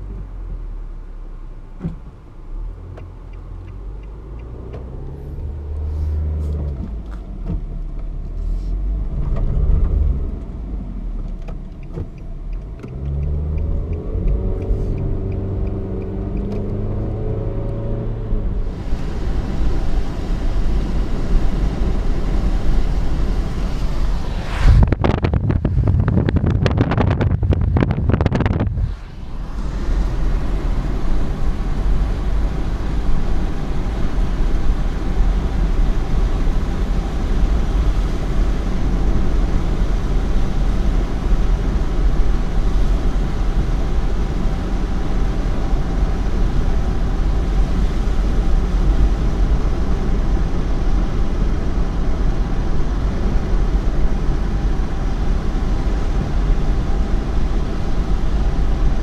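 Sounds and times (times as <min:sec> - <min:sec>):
car engine and tyres on wet road: 0:00.0 - 0:59.0.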